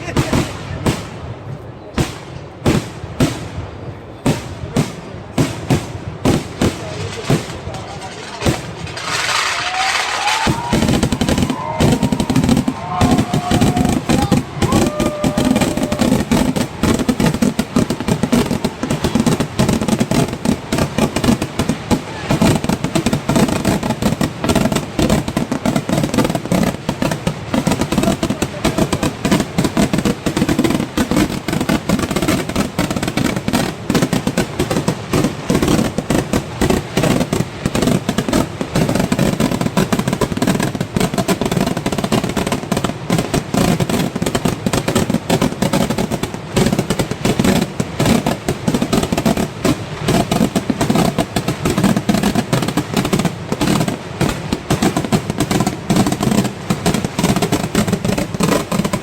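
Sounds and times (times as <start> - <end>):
rapid firecracker bangs: 0.0 - 59.0.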